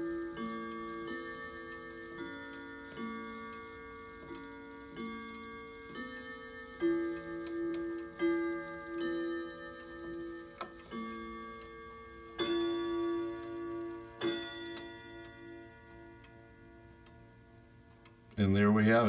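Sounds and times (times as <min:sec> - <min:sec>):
clock chime melody: 0:00.0 - 0:18.1
clock striking the hour: 0:00.0 - 0:18.2.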